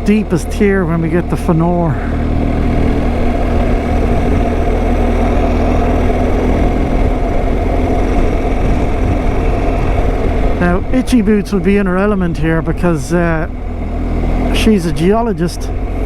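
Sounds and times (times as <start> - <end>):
motorcycle engine cruising: 0.0 - 16.0
road and air noise: 0.0 - 16.0.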